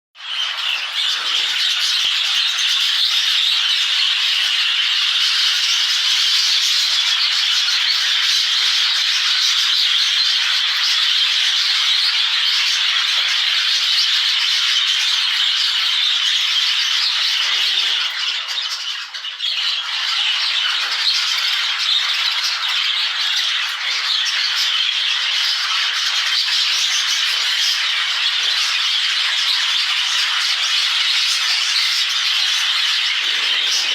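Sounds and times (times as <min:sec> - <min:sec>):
budgerigars chattering and squawking: 0:00.2 - 0:33.9.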